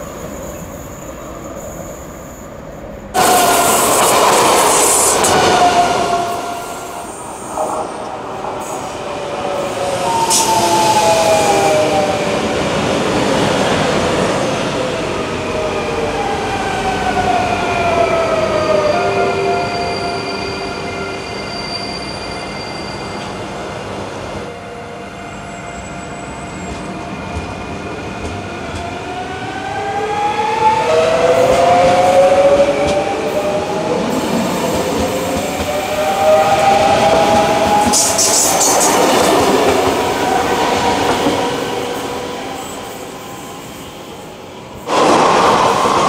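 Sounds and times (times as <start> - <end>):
train wheels squealing on rails: 0.0 - 12.5, 16.0 - 44.9.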